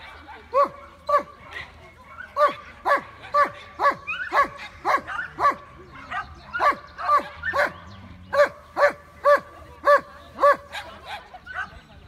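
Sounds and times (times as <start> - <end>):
dog barking: 0.0 - 11.8.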